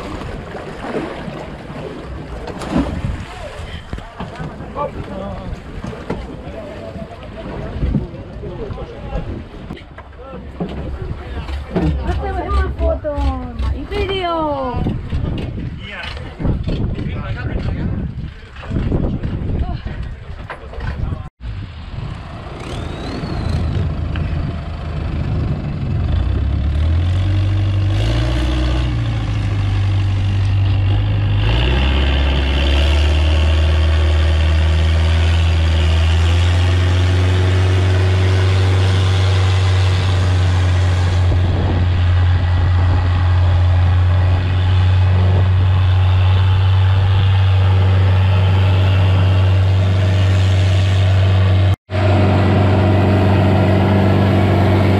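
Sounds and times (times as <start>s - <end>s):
rush of boat wash: 0.0s - 20.4s, 25.4s - 54.9s
boat engine: 0.0s - 54.9s.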